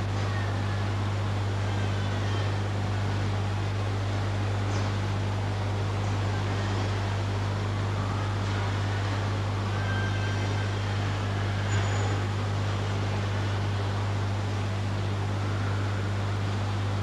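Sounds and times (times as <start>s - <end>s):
low electrical hum and hiss: 0.0s - 17.0s.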